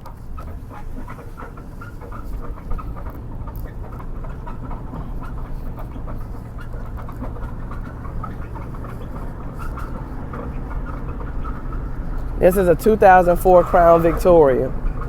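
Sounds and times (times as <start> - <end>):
low rumble of car on road: 0.0 - 15.0
rapid clunking knocks from car: 0.0 - 15.0.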